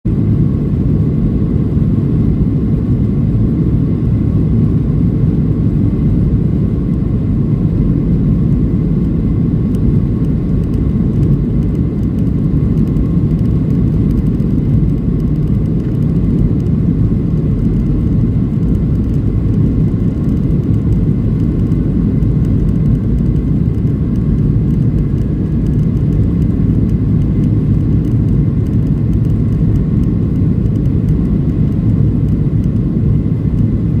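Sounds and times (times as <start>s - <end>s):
faint engine whine: 0.0s - 34.0s
jet engines rumbling: 0.1s - 34.0s.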